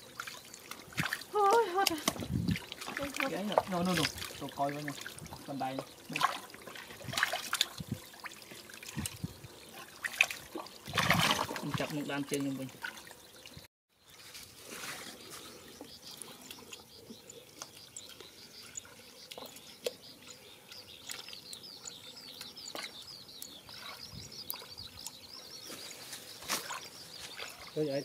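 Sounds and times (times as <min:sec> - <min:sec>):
small songbird chirping: 0:00.0 - 0:06.9, 0:07.5 - 0:28.0.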